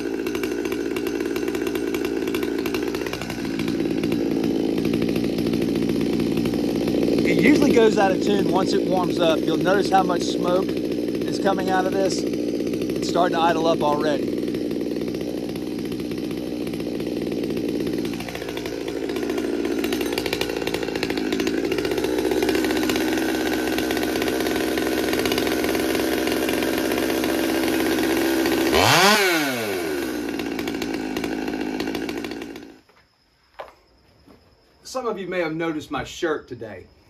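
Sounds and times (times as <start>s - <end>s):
chainsaw throttle blip: 0.0s - 32.8s
chainsaw idling: 0.0s - 32.9s.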